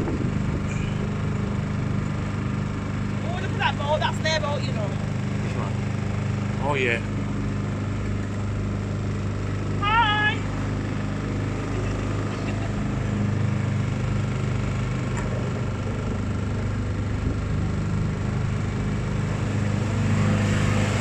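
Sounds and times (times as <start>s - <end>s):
motorboat engine humming: 0.0s - 21.0s.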